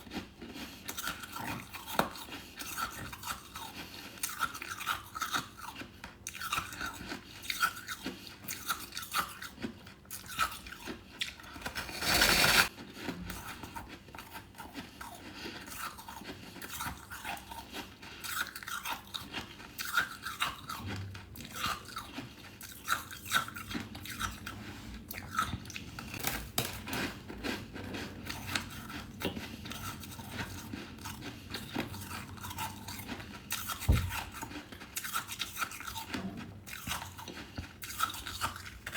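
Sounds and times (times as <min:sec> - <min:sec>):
person chewing crunchy frost: 0:00.0 - 0:38.9.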